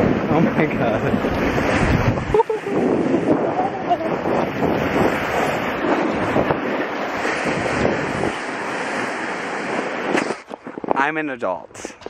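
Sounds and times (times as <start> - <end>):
sled sliding over snow: 0.0 - 10.5
wind rushing over microphone: 0.0 - 12.0.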